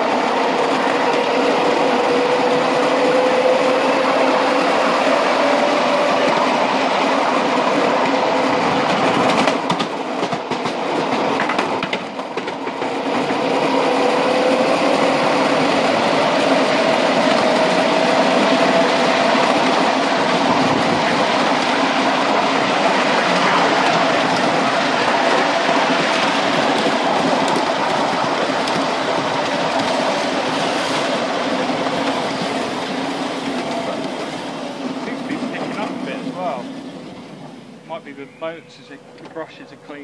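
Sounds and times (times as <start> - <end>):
wheels running on rails: 0.0 - 40.0.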